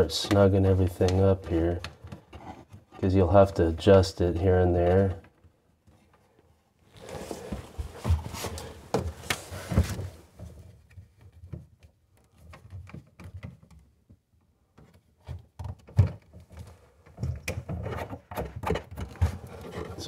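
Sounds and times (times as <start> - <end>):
knocks and thumps of plastic pipes: 0.0 - 6.4, 7.1 - 20.0.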